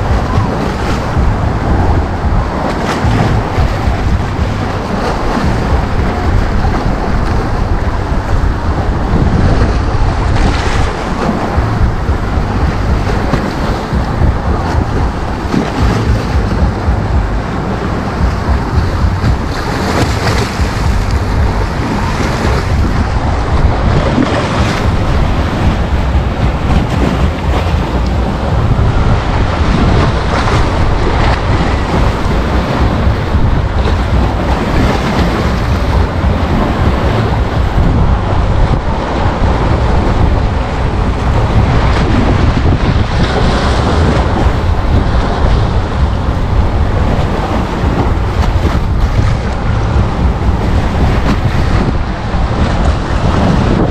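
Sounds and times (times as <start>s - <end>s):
wind rumble on microphone: 0.0s - 53.9s.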